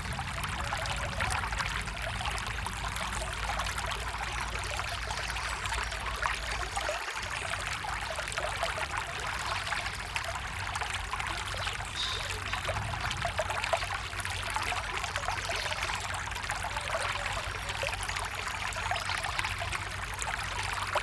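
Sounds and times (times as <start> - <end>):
stream water trickling and splashing: 0.0 - 21.0.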